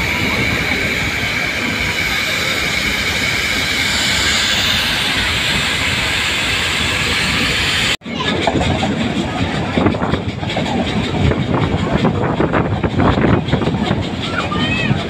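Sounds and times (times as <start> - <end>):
passenger train running: 0.0 - 15.0.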